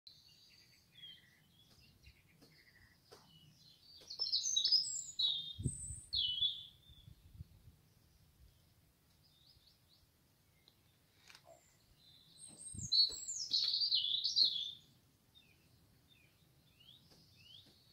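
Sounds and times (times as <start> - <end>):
nightingale singing: 0.1 - 17.9.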